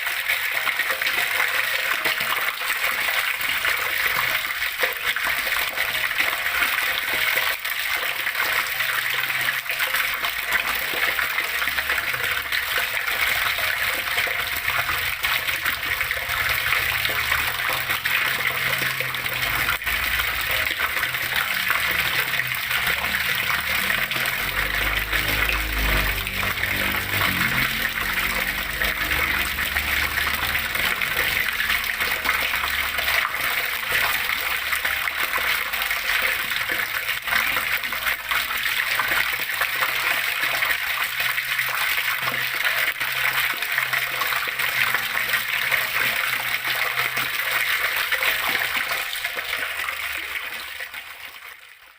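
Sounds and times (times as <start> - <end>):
water rushing and splashing: 0.0 - 51.5.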